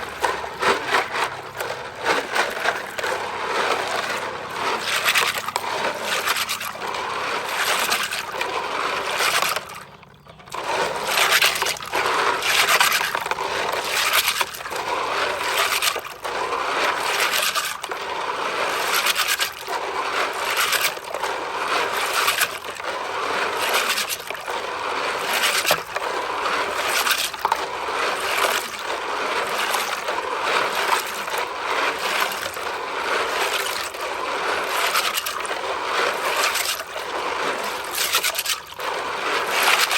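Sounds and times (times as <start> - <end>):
hard objects scraping and clattering: 0.0 - 39.9.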